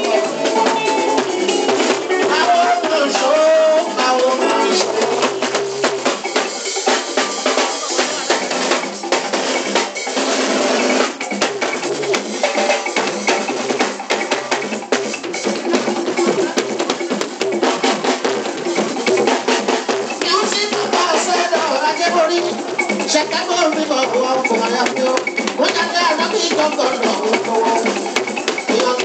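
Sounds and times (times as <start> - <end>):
band playing fast drum rhythm: 0.0 - 29.0.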